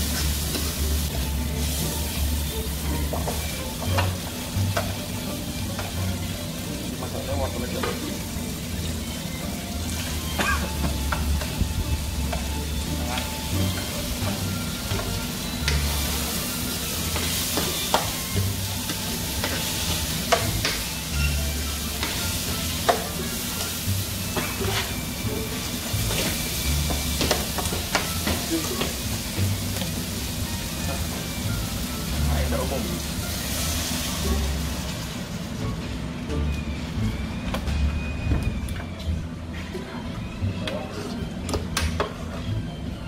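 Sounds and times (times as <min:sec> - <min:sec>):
food sizzling in a pan: 0:00.0 - 0:35.8.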